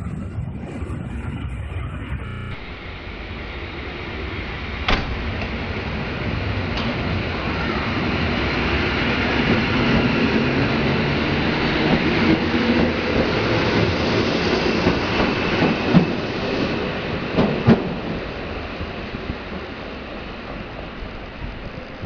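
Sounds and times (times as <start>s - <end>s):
wheels rumbling on rail: 0.0s - 22.0s.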